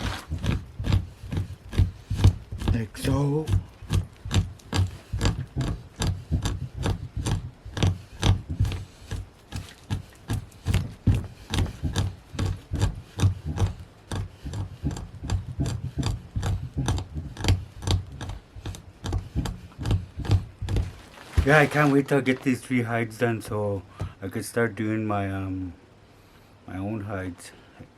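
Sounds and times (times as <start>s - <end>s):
hand tool scraping animal hide: 0.0s - 22.6s.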